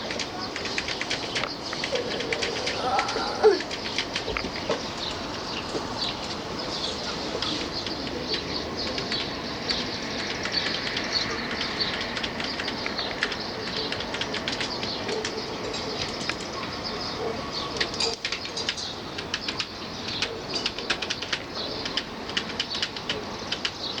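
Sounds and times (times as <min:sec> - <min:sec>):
small birds chirping: 0:00.0 - 0:24.0
steady background hiss: 0:00.0 - 0:24.0.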